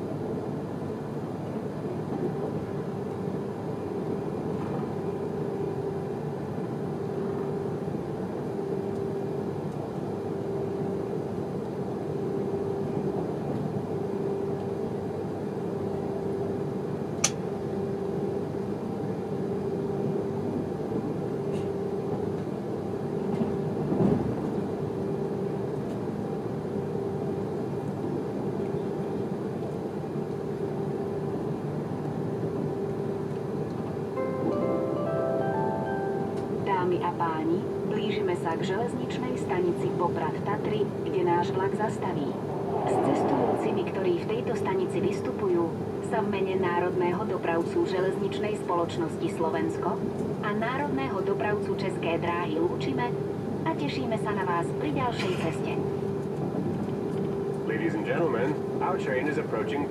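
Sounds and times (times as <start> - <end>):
train cabin running noise: 0.0 - 59.9.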